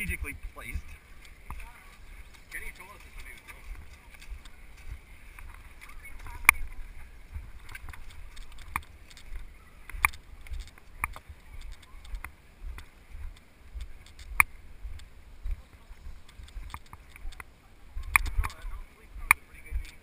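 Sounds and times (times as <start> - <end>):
footsteps squelching in mud: 0.1 - 18.7.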